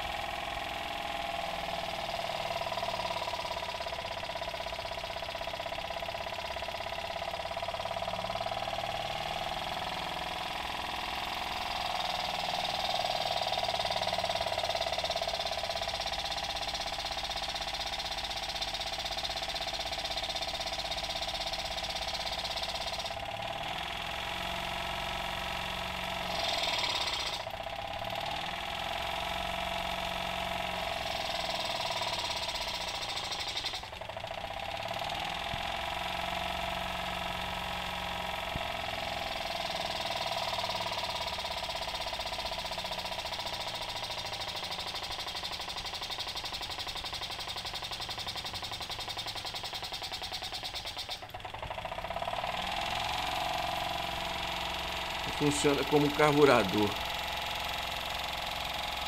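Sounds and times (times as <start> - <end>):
small engine running fast: 0.0 - 59.0.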